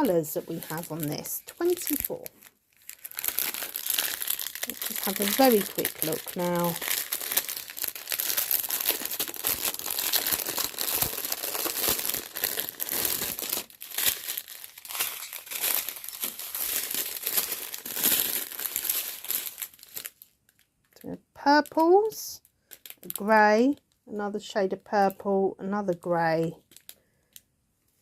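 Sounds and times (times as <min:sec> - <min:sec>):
plastic bags crinkling: 0:00.0 - 0:21.0, 0:21.7 - 0:23.8, 0:26.5 - 0:27.0.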